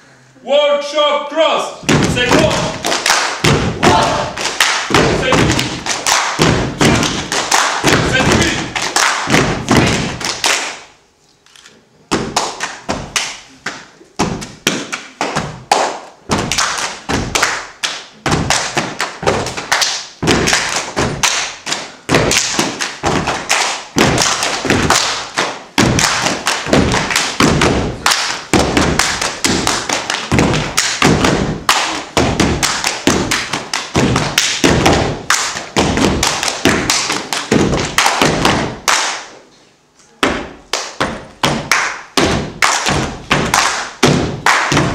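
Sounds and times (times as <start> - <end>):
stomping on wooden stage: 1.8 - 10.4, 14.2 - 39.0, 40.2 - 44.9
people clapping in unison: 2.0 - 10.9, 12.2 - 39.4, 40.7 - 44.9.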